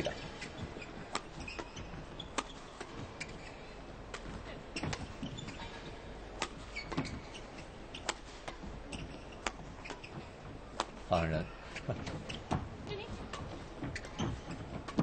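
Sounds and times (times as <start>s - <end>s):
shoes squeaking on court: 0.0s - 15.0s.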